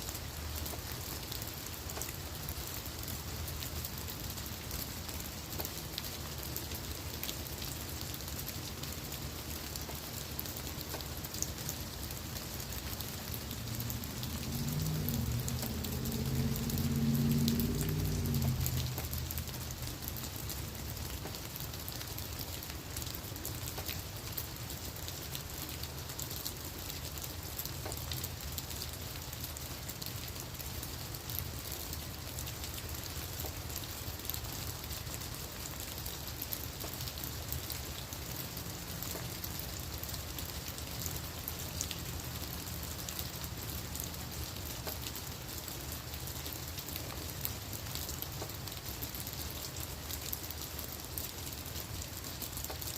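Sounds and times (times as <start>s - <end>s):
rain falling on leaves: 0.0s - 52.9s.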